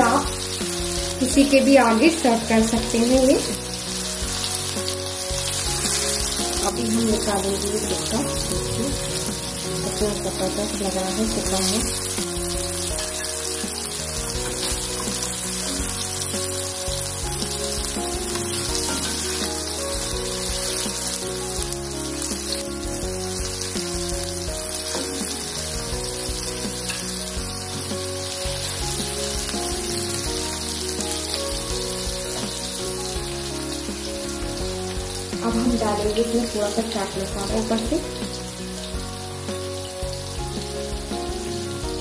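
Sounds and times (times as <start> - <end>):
background music: 0.0 - 42.0
meat sizzling in hot oil: 0.0 - 42.0.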